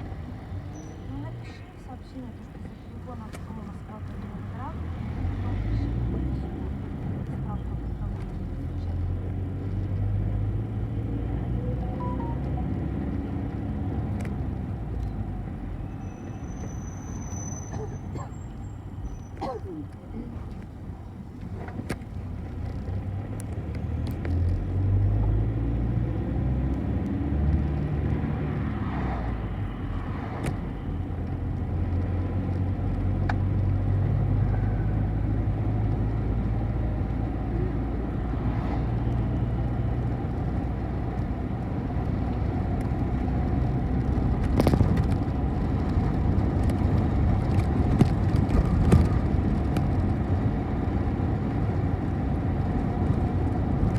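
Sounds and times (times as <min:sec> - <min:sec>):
bus engine and road noise: 0:00.0 - 0:53.9.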